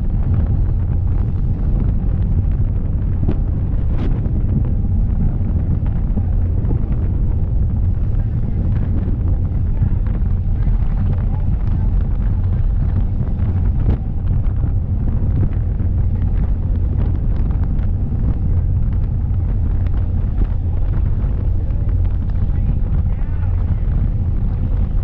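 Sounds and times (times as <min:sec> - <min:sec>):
boat engines rumbling: 0:00.0 - 0:25.0
rush of boat wake: 0:00.0 - 0:25.0
wind buffeting microphone: 0:00.0 - 0:25.0.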